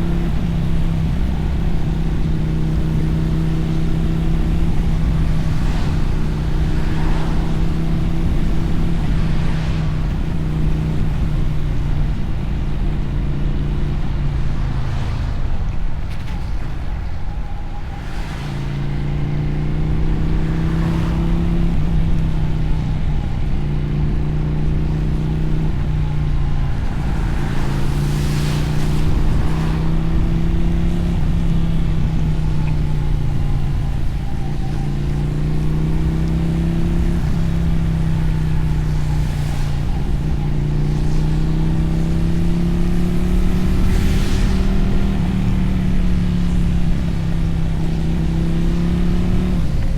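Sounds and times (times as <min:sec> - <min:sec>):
motorcycle engine and exhaust: 0:00.0 - 0:49.9
wet road noise: 0:00.0 - 0:49.9
wind rush: 0:00.0 - 0:49.9.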